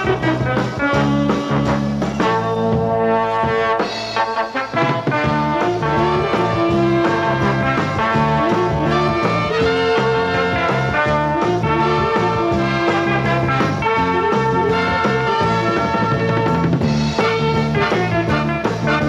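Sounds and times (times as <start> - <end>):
upbeat brass swing music: 0.0 - 19.0.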